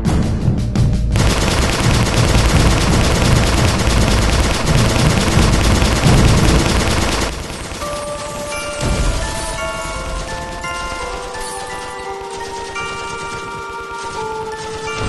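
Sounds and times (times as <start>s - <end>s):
automatic gunfire: 1.2s - 15.0s.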